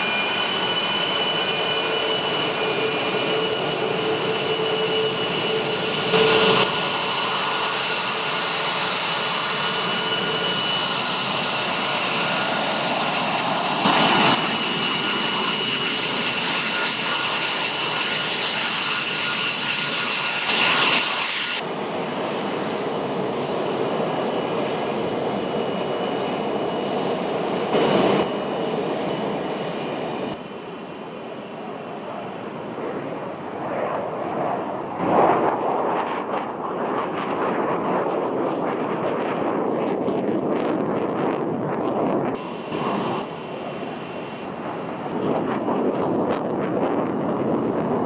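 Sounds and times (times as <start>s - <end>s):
jet engine rushing and whining: 0.0s - 48.0s.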